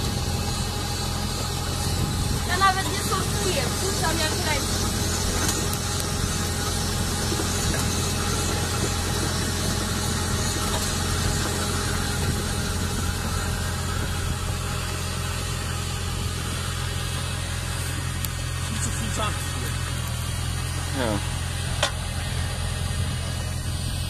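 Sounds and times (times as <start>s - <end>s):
harvesting machine engine humming: 0.0s - 24.0s.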